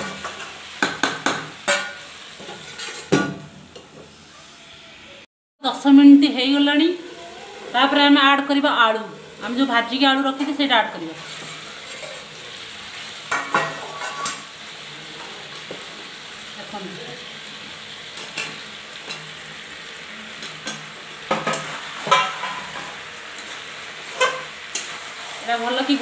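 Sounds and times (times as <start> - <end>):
curry sizzling in a pan: 0.0 - 26.0.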